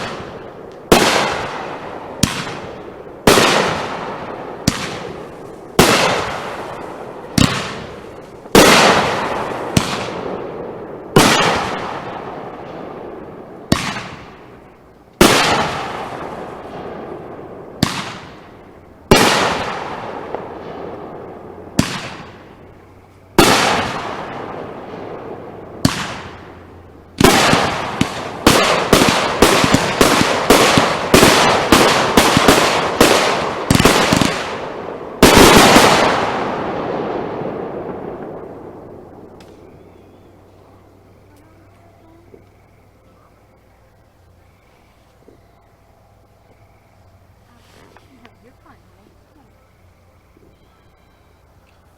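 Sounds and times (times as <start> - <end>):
fireworks bursting: 0.0 - 45.4.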